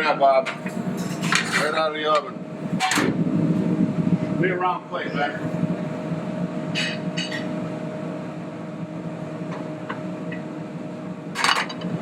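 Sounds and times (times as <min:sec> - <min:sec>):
ventilation fan hum: 0:00.0 - 0:12.0.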